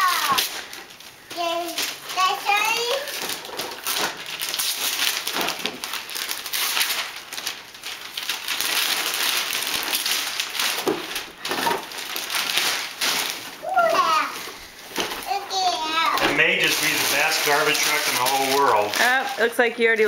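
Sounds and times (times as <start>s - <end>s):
wrapping paper tearing and crumpling: 0.0s - 20.0s.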